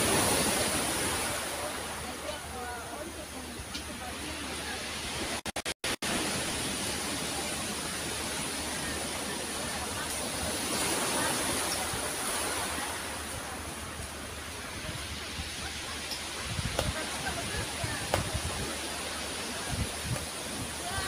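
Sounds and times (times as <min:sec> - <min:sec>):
sea surf on pebble beach: 0:00.0 - 0:21.0.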